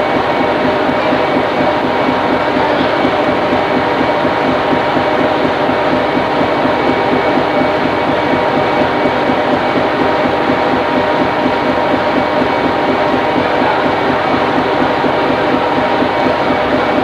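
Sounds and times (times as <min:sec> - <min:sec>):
machinery drone: 0:00.0 - 0:17.0.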